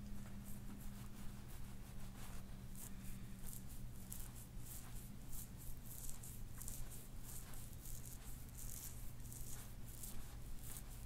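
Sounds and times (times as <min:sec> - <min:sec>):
faint low hum: 0:00.0 - 0:11.0
fingertips scratching through hair: 0:00.2 - 0:11.0.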